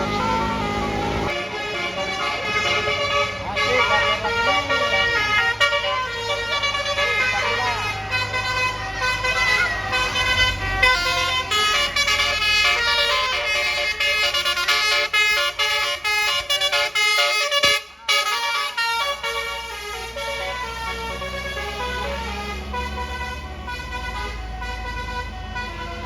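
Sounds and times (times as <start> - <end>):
bus engine running: 0.0 - 26.0
musical air horn melody: 0.0 - 26.0.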